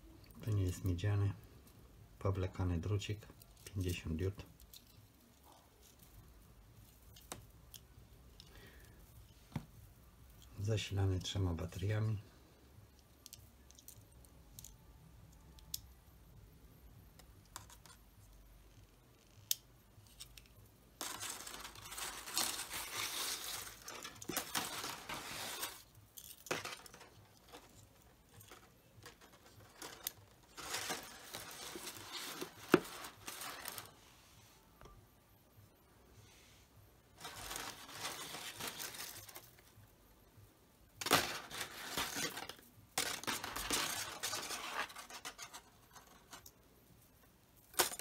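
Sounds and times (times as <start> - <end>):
crinkly wire rustling: 0.2 - 15.9, 17.2 - 34.1, 37.1 - 39.9, 40.9 - 48.0.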